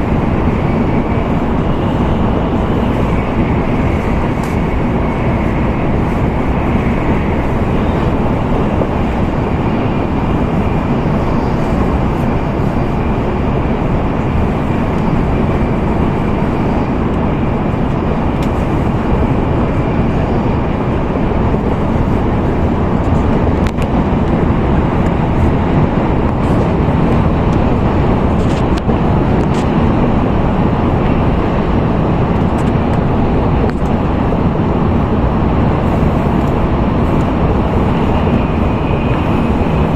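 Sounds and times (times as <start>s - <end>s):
train cabin rumble: 0.0s - 39.9s.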